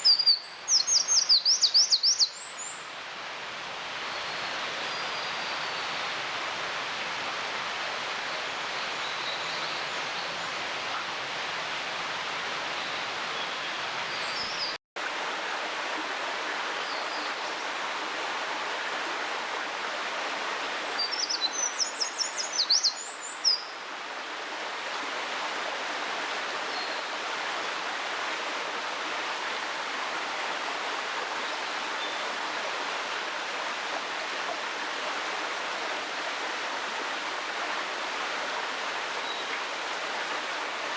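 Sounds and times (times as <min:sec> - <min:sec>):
stream rushing: 0:00.0 - 0:21.8, 0:23.5 - 0:40.9.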